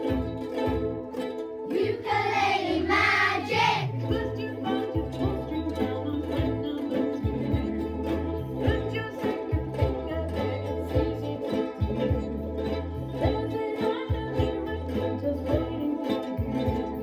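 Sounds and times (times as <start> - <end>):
children playing ukuleles: 0.0 - 17.0
person singing: 1.6 - 17.0.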